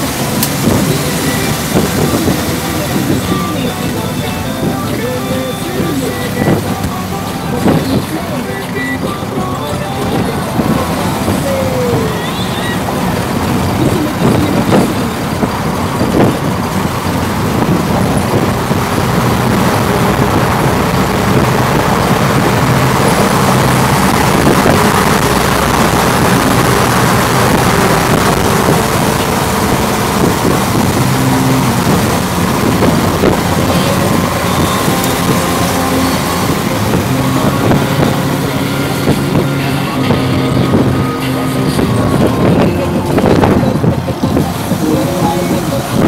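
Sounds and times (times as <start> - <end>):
car engine and road noise: 0.0 - 46.0.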